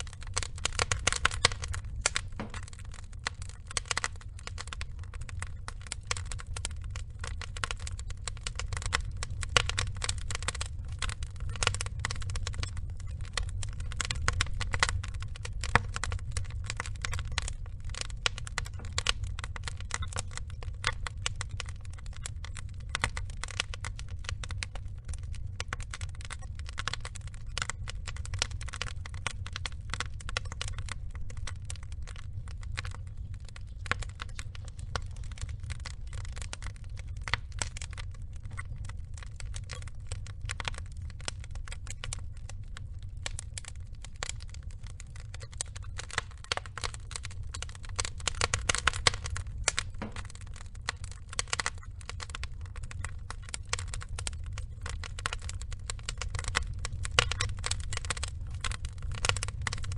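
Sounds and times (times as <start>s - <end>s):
burning logs crackling and popping: 0.0s - 59.9s
low steady rumble: 0.0s - 59.9s.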